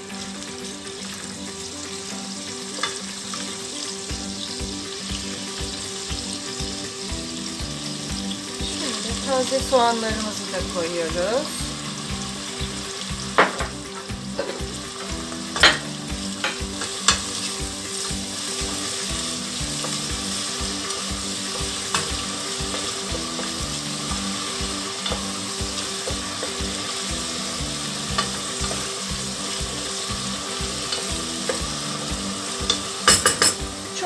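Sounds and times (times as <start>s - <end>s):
onions sizzling in oil: 0.0s - 34.0s.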